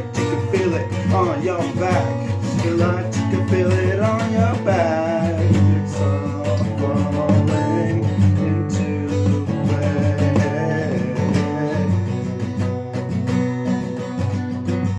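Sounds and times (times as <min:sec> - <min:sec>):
strummed acoustic guitar: 0:00.0 - 0:14.9.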